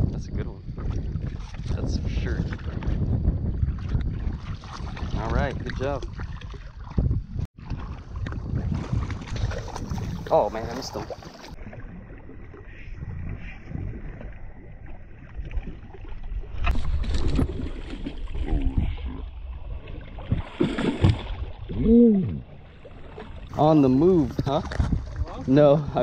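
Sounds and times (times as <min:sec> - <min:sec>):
shallow water splashing: 0:00.6 - 0:26.0.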